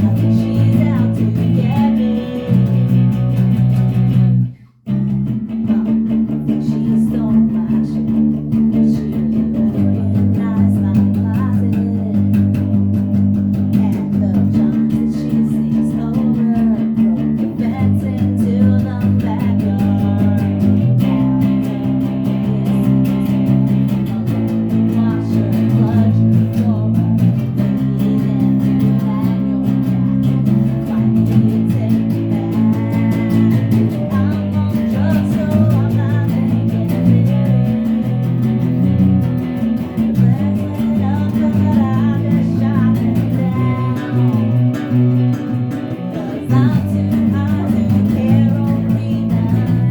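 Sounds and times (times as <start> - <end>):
person singing: 0.0 - 4.0, 5.5 - 12.8, 13.5 - 49.9
bass guitar playing: 0.0 - 49.9
electric guitar playing: 0.0 - 49.9.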